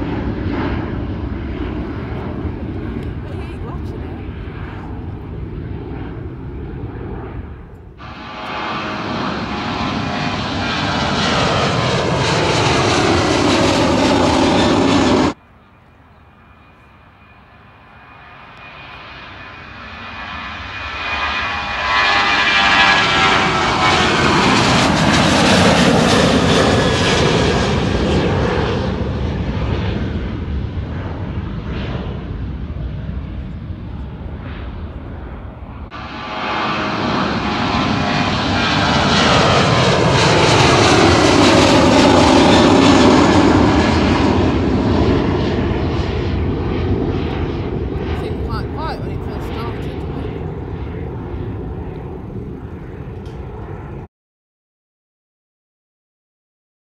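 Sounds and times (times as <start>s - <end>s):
high engine whine: 0.0s - 29.6s, 30.2s - 54.1s
airliner turbofans at takeoff: 0.0s - 54.1s
passing jet engine noise: 0.0s - 54.1s.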